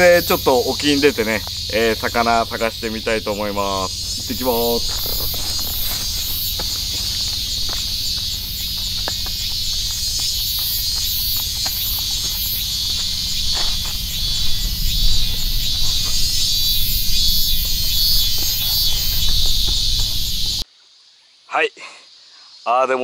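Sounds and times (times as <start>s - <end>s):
pulsing insect layer: 0.0s - 20.6s
high-pitched insect chorus: 0.0s - 23.0s
low rumble: 0.6s - 20.6s.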